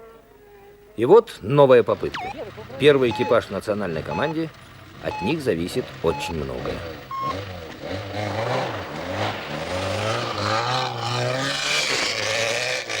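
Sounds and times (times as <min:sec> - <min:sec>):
car engine revving through gears: 0:02.0 - 0:13.0.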